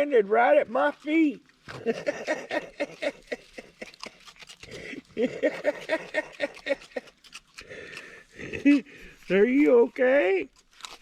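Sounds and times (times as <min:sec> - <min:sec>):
animals crunching dry food: 0:00.0 - 0:11.0.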